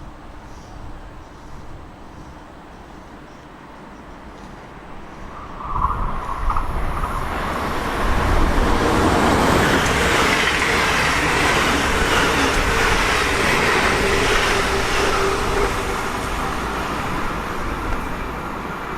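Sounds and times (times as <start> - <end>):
train rumbling past: 0.0 - 18.9.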